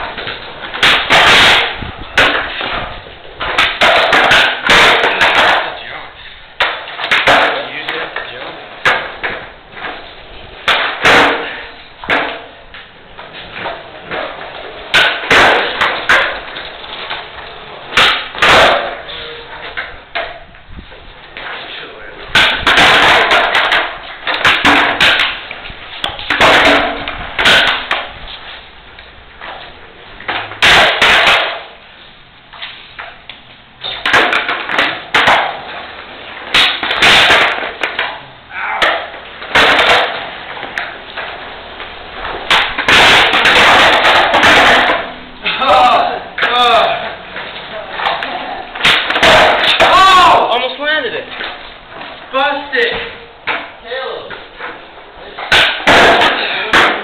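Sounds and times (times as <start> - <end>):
skateboard clacking on pavement: 0.0 - 5.8, 6.6 - 20.6, 22.2 - 31.8, 32.6 - 38.2, 38.8 - 50.5, 51.3 - 57.0.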